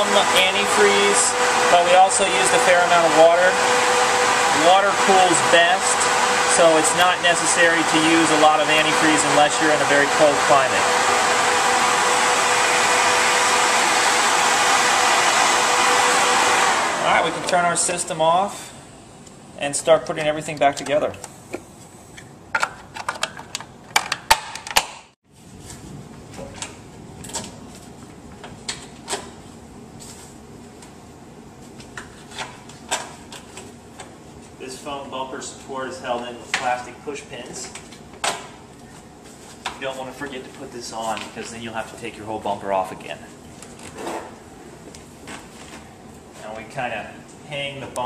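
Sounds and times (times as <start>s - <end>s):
electric fans rushing air: 0.0s - 24.2s, 25.3s - 48.0s.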